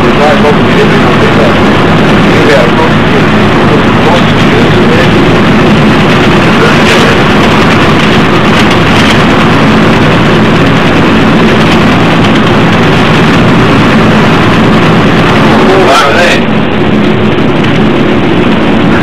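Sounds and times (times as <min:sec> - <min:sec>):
bus engine drone: 0:00.0 - 0:19.0
road noise: 0:00.0 - 0:19.0.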